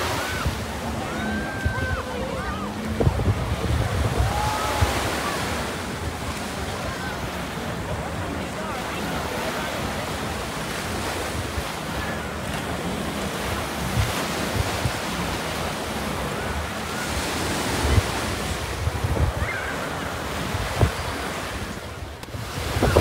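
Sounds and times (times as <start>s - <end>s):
ocean surf: 0.0s - 23.0s
wind buffeting microphone: 0.0s - 23.0s.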